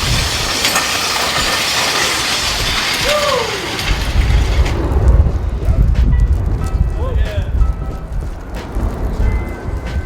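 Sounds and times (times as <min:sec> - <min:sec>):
wind rumble on microphone: 0:00.0 - 0:00.7, 0:02.3 - 0:10.0
push sleds scraping on pavement: 0:00.0 - 0:10.0.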